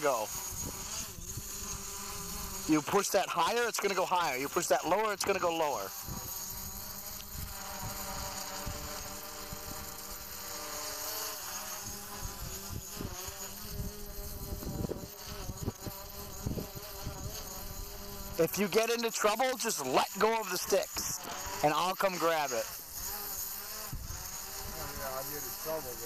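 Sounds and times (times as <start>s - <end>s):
drone propellers buzzing: 0.0s - 26.0s.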